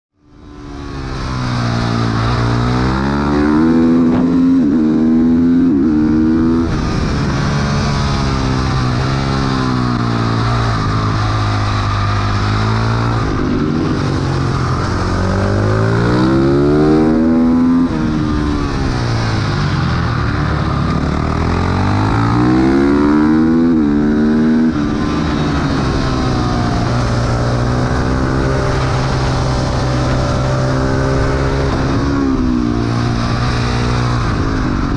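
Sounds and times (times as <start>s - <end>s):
motorcycle engine accelerating: 0.2s - 34.9s.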